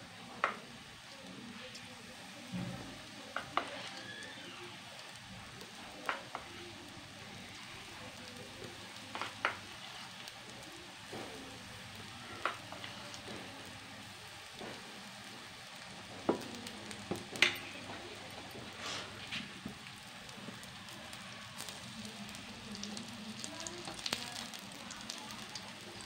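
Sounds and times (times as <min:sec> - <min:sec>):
fritters sizzling in hot oil: 0:00.0 - 0:26.0.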